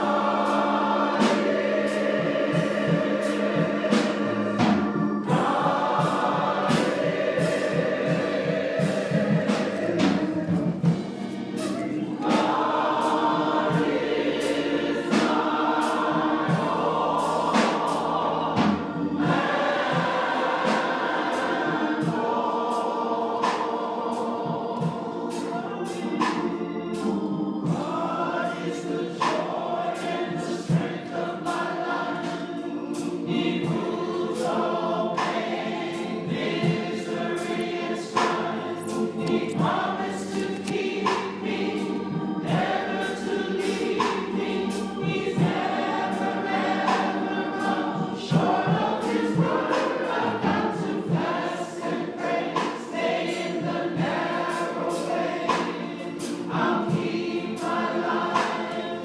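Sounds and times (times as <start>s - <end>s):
sharp regular beat: 0.0s - 27.1s, 33.0s - 59.0s
congregation singing gospel: 0.0s - 59.0s.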